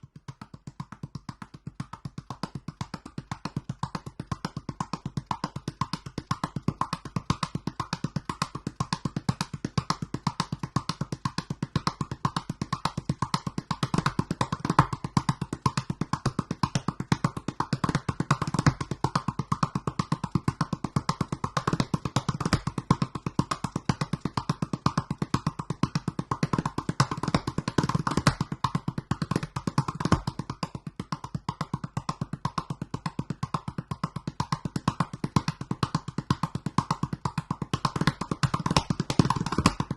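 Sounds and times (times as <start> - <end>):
gourd drum played by hand: 0.0 - 39.9.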